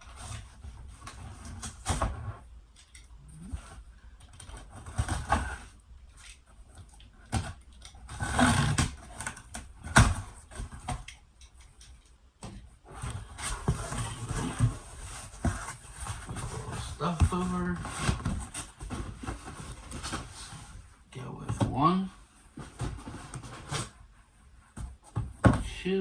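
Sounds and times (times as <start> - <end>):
cardboard rustling and scraping: 0.0 - 11.2, 12.4 - 25.7.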